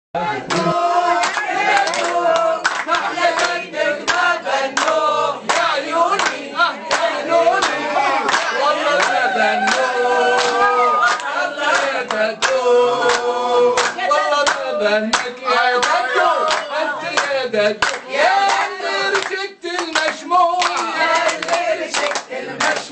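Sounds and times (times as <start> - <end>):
people singing together: 0.2 - 22.9
hands clapping: 0.5 - 22.9.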